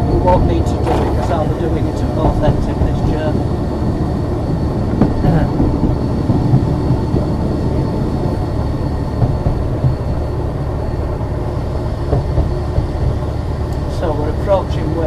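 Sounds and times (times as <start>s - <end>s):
tram wheels rumbling on track: 0.0s - 15.0s.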